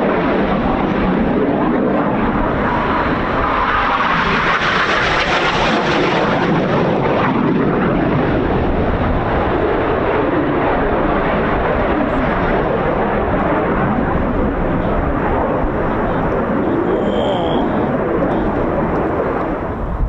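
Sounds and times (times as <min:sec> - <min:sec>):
wind buffeting microphone: 0:00.0 - 0:06.7, 0:07.8 - 0:20.0
jet engines rushing: 0:00.0 - 0:20.0.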